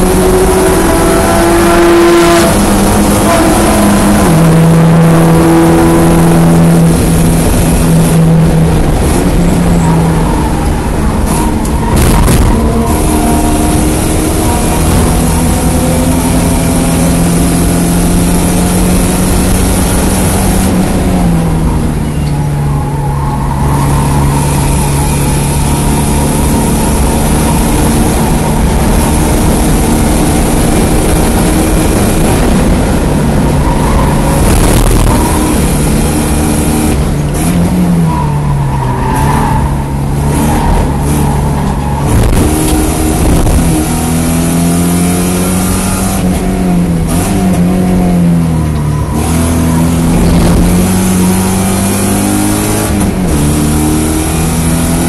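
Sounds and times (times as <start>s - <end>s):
car engine revving hard: 0.0s - 22.0s, 23.1s - 55.0s
wind and road noise: 0.0s - 55.0s.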